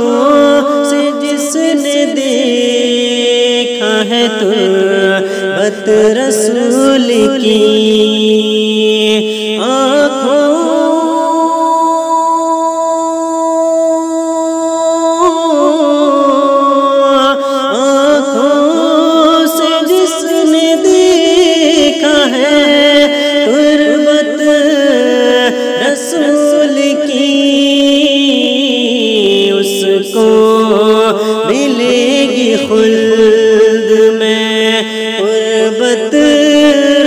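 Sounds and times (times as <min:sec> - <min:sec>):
vocal drone: 0:00.0 - 0:37.0.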